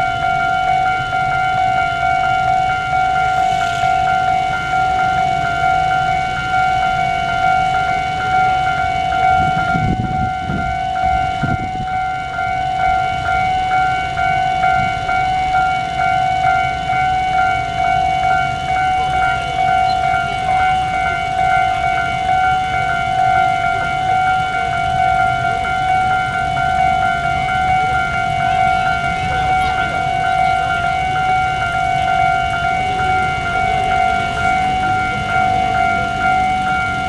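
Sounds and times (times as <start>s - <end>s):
steady pitched tone: 0.0s - 37.0s.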